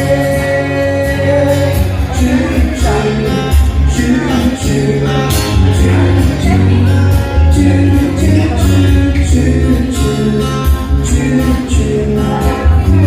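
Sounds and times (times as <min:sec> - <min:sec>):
song with beat and vocals: 0:00.0 - 0:13.0.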